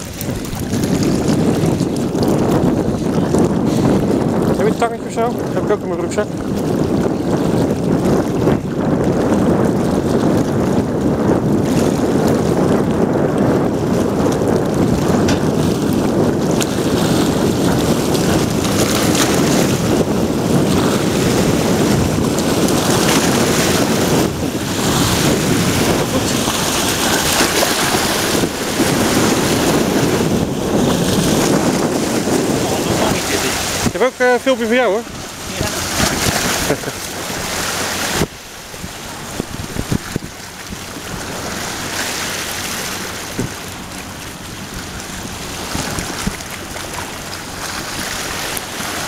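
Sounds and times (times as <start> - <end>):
surf washing over rocks: 0.0 - 49.0
wind buffeting microphone: 0.0 - 49.0.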